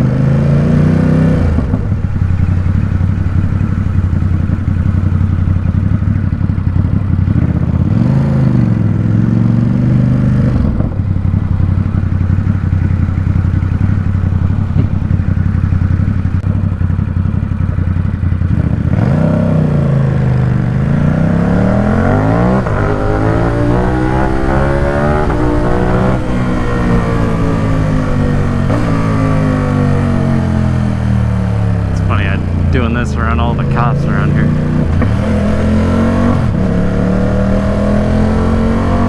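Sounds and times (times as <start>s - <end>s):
motorcycle engine revving: 0.0s - 32.7s, 34.4s - 39.0s.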